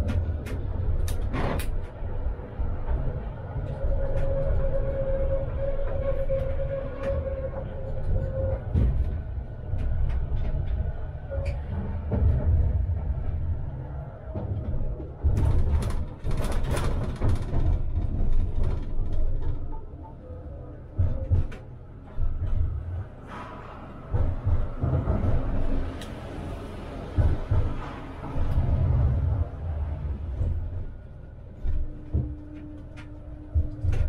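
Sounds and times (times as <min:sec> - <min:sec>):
tram rumbling along track: 0:00.0 - 0:34.0.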